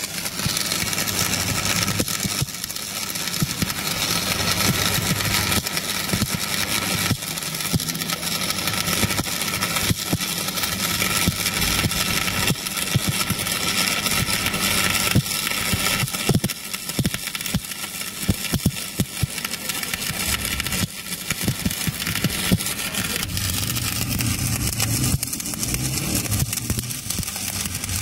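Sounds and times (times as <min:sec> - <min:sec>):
sharp spatter pops: 0:00.0 - 0:28.0
welding arc crackling: 0:00.0 - 0:28.0.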